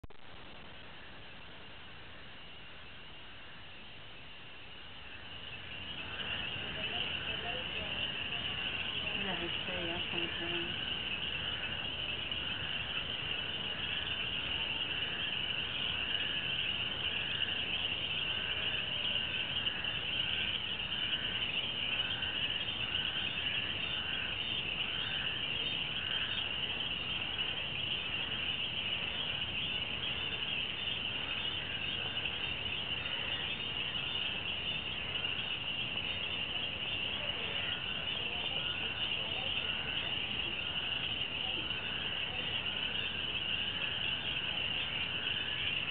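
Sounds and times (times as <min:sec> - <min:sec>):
frog pulsing call: 0:04.7 - 0:45.9.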